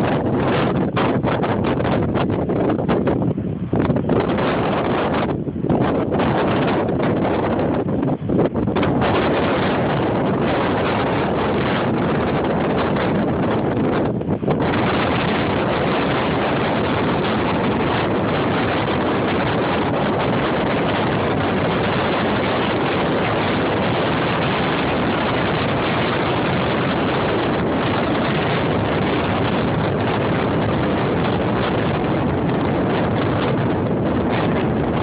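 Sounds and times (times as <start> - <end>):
strong wind on microphone: 0.0 - 35.0.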